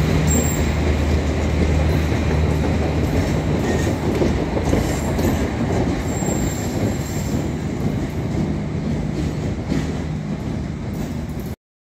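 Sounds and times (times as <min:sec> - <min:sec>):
train wheels rumbling on rails: 0:00.0 - 0:11.6.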